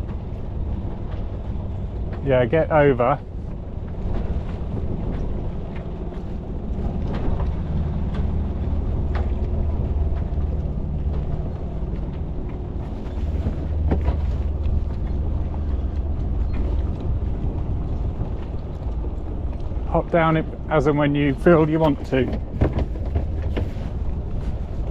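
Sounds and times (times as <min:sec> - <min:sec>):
boat engine running: 0:00.0 - 0:24.9
wind noise on microphone: 0:00.0 - 0:24.9.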